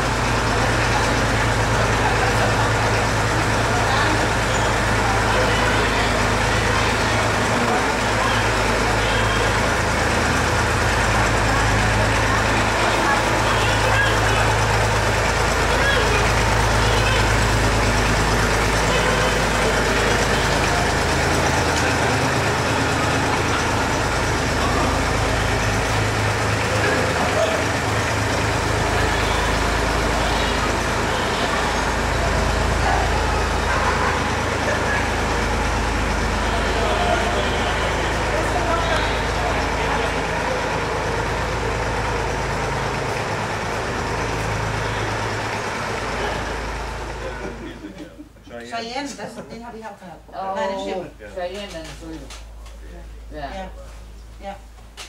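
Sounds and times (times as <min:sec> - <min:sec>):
small tractor engine running: 0:00.0 - 0:48.0.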